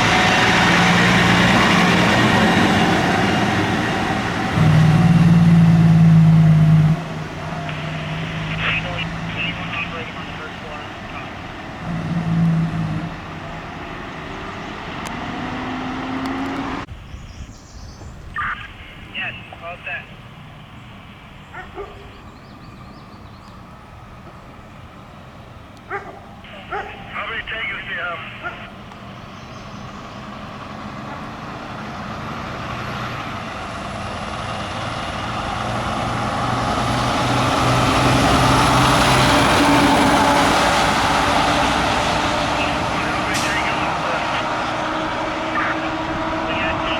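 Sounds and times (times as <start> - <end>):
fire truck driving past: 0.0 - 17.0, 19.0 - 46.9
road noise: 0.0 - 46.9.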